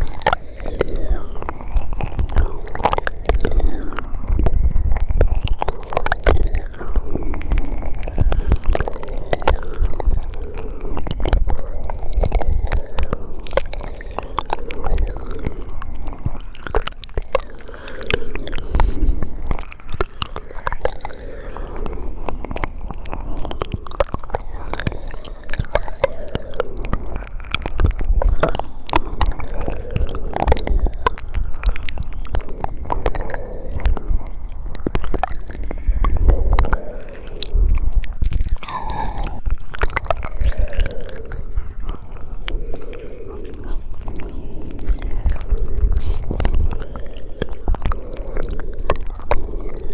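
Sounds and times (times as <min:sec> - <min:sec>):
wet mouth clicks and smacks: 0:00.0 - 0:49.9.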